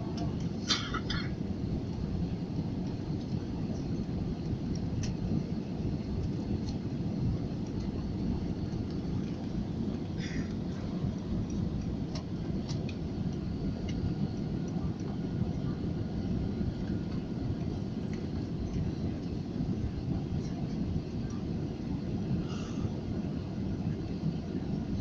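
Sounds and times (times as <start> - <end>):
airliner cabin rumble: 0.0 - 25.0.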